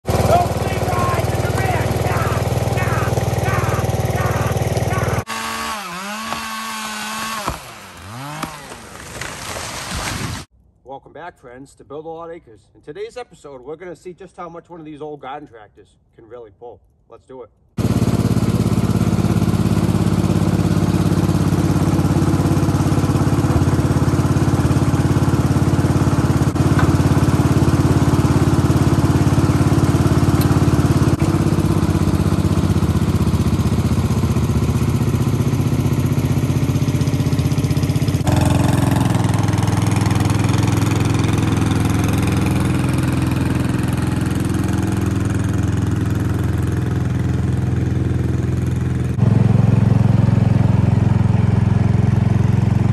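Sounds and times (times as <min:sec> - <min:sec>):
tractor engine running: 0:00.0 - 0:09.9, 0:17.8 - 0:52.9.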